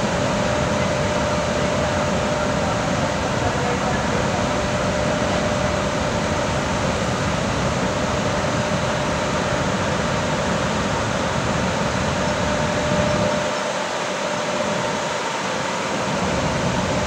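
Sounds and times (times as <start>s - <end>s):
cooling fans blowing: 0.0s - 17.0s
thin steady whine: 0.0s - 17.0s.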